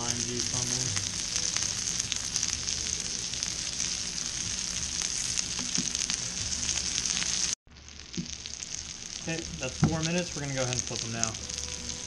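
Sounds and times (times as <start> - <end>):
fish sizzling on griddle: 0.0 - 12.0.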